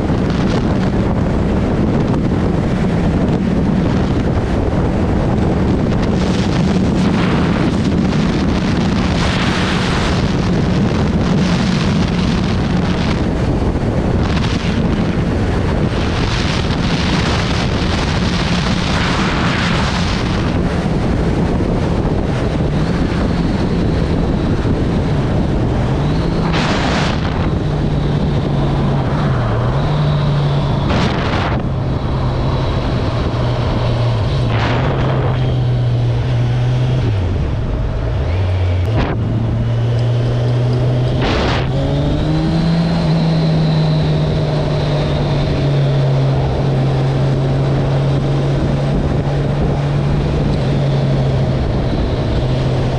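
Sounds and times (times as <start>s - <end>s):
motorcycle engine cruising: 0.0s - 52.9s
wind buffeting microphone: 0.0s - 52.9s.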